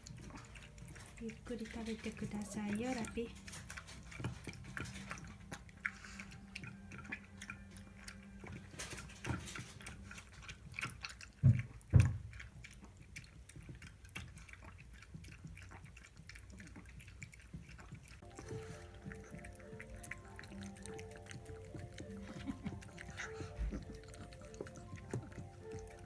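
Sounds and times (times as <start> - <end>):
chewing and licking clicks: 0.0 - 26.0
dog eating from bowl: 0.0 - 26.0.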